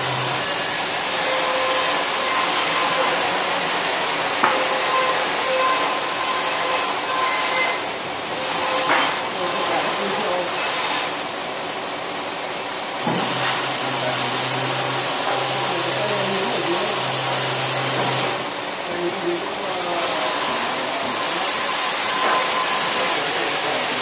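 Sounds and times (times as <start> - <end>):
circular saw cutting logs: 0.0 - 11.2, 13.0 - 18.5, 19.7 - 24.0.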